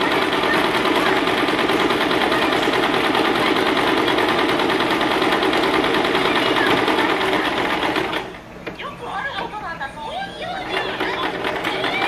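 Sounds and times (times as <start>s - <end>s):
sewing machine stitching: 0.0s - 8.4s, 10.6s - 12.0s.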